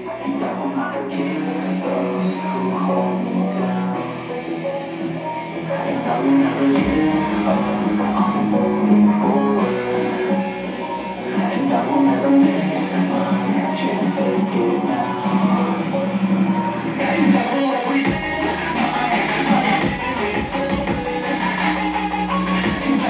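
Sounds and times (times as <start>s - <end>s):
bass line: 0.0s - 23.0s
guitar music: 0.0s - 23.0s.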